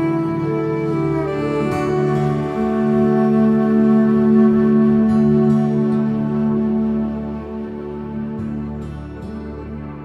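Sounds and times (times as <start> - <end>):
calm new-age instrumental music: 0.0 - 10.0.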